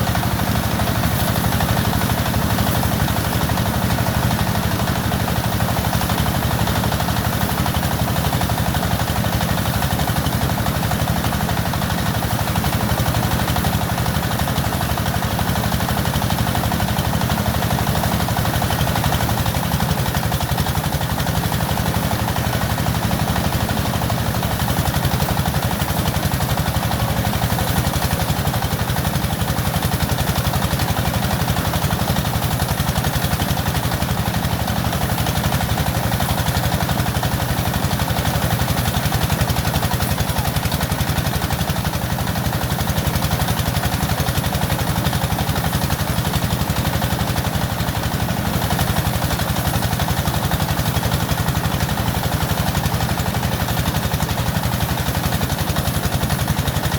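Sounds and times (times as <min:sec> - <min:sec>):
small engine running: 0:00.0 - 0:56.9.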